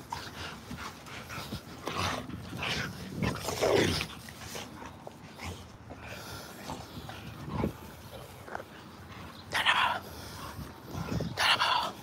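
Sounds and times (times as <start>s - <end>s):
dogs playing rough: 0.0s - 12.0s.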